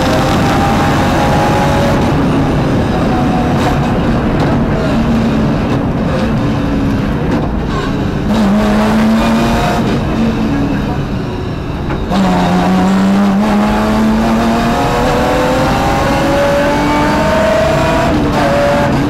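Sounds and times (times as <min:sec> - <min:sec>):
car engine under load: 0:00.0 - 0:19.0
road and tyre noise: 0:00.0 - 0:19.0.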